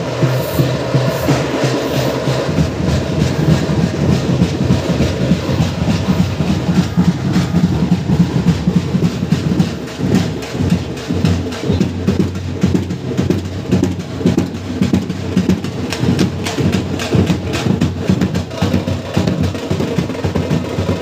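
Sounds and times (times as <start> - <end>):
fast procession drumming: 0.0 - 21.0.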